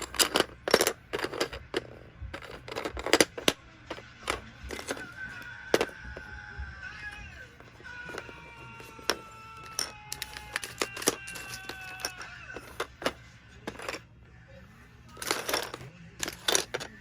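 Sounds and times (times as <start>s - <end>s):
plastic toy bricks clicking: 0.0s - 6.4s, 7.1s - 14.1s, 15.1s - 17.0s
faint music: 0.0s - 17.0s.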